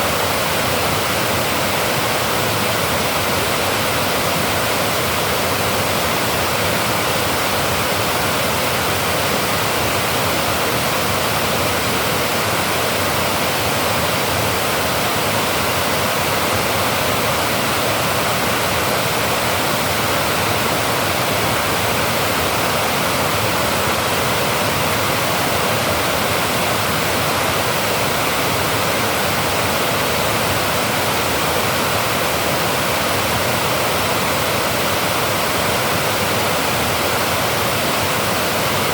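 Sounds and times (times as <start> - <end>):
water rushing from a dam: 0.0 - 38.9.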